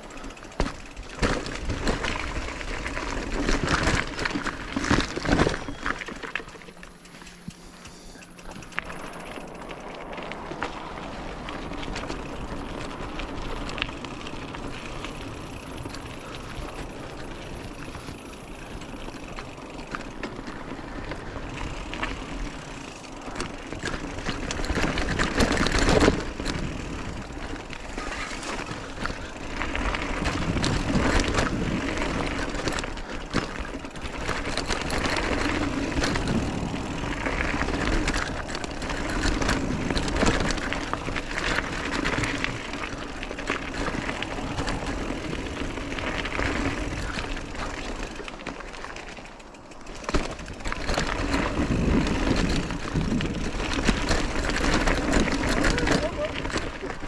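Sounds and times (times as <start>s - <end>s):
bike rattling over bumps: 0.0s - 57.0s
tyres crunching over gravel: 0.0s - 57.0s.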